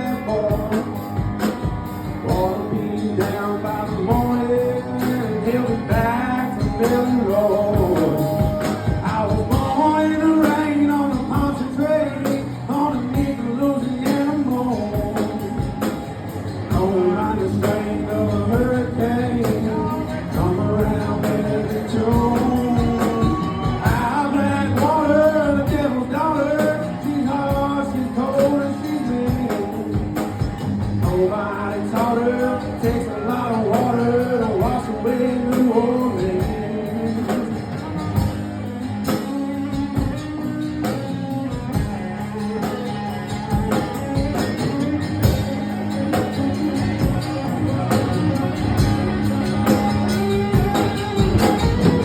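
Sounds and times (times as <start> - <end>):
bending lead guitar line: 0.0 - 52.0
live band playing country-rock: 0.0 - 52.0.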